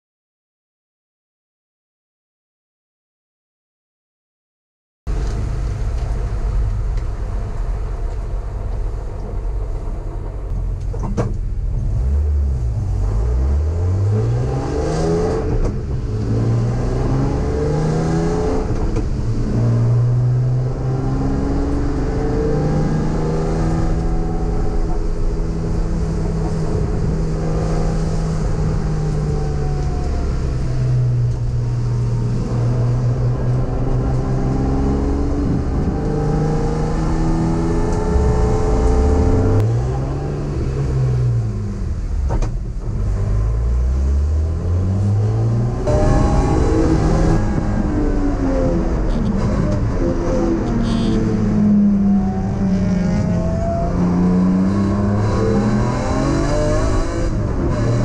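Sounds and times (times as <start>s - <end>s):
car engine revving through gears: 10.4s - 58.0s.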